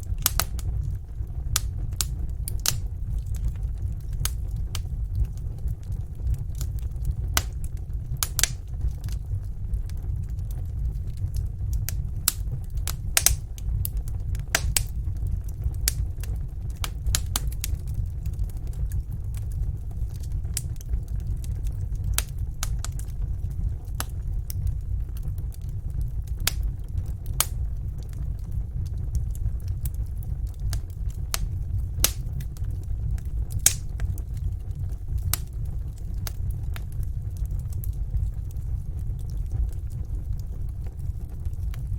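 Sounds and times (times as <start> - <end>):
fireplace fire crackling: 0.0 - 41.9
low rumble of flames: 0.0 - 41.9.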